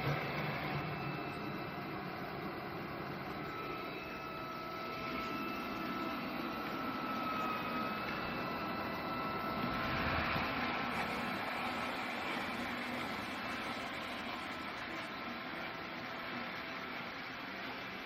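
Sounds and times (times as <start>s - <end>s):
robot vacuum whirring hum: 0.0s - 18.0s.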